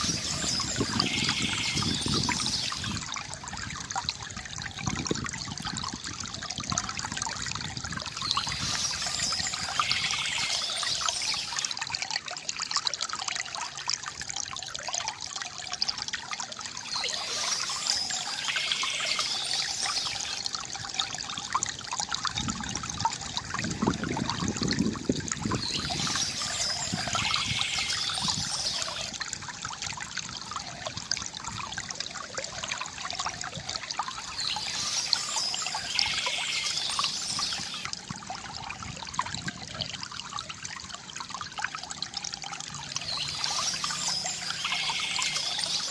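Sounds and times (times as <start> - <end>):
fountain water trickling and gurgling: 0.0 - 45.9.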